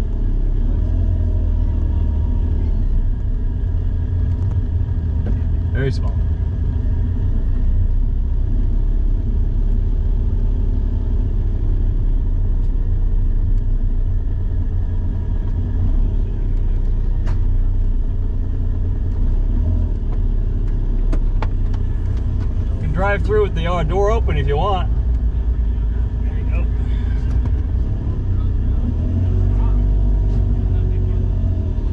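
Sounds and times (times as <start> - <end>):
car engine rumbling: 0.0 - 31.9.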